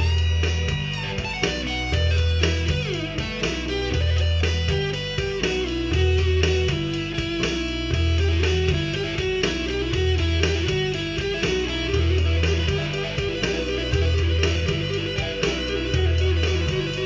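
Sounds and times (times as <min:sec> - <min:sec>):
solo electric guitar: 0:00.0 - 0:17.0.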